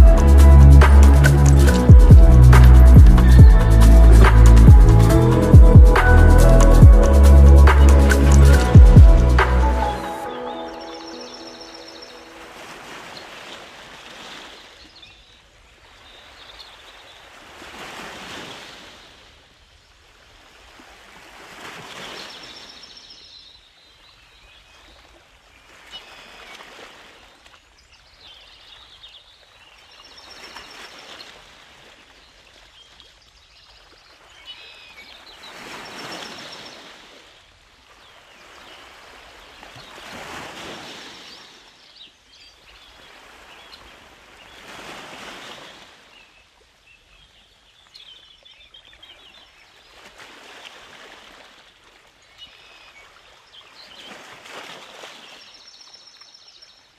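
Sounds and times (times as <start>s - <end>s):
small waves washing ashore: 0.0s - 23.0s, 24.7s - 27.9s, 29.6s - 46.8s, 49.0s - 55.8s.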